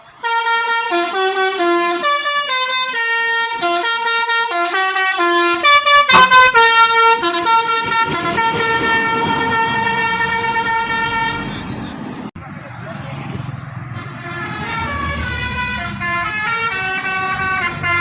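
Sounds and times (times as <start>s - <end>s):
musical bus horn tune: 0.0s - 11.8s, 13.9s - 18.0s.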